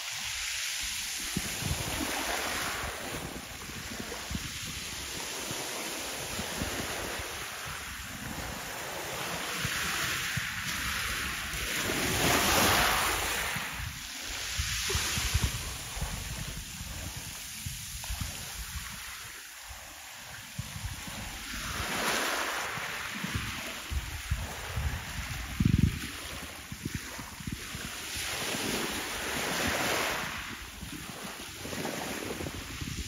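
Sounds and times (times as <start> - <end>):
sea noise: 0.0 - 33.0
wind buffeting microphone: 1.2 - 33.0.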